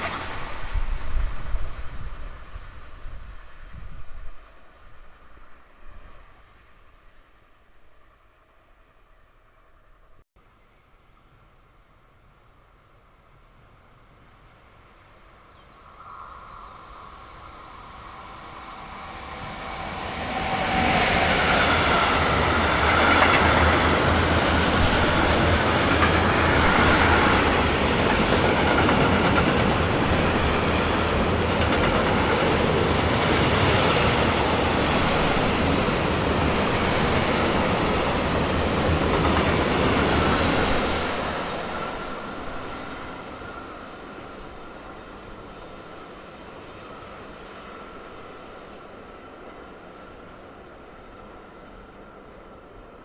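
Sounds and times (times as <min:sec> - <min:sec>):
freight train passing: 0:00.0 - 0:10.2, 0:12.1 - 0:53.0.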